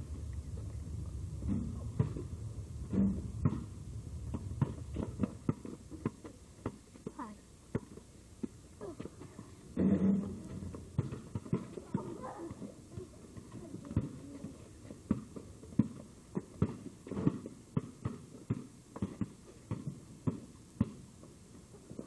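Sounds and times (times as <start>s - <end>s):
irregular knocks and thuds: 0.0s - 21.0s.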